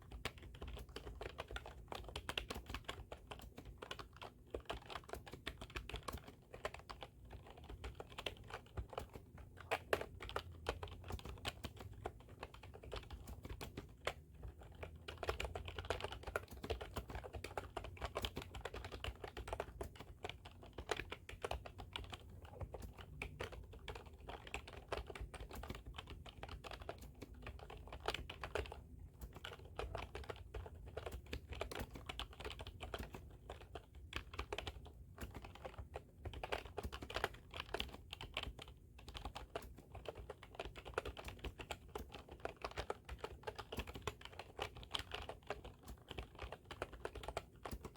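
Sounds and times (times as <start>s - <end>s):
fast typing on a keyboard: 0.0s - 47.9s.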